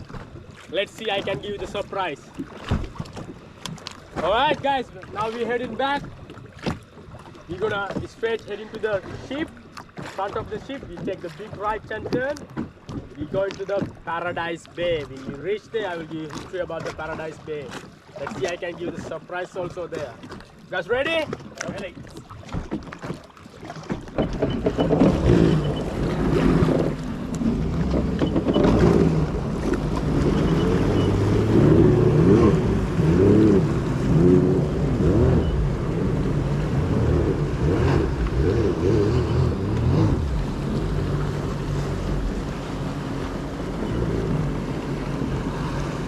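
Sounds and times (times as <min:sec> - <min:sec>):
jet ski engine running: 0:00.0 - 0:46.0.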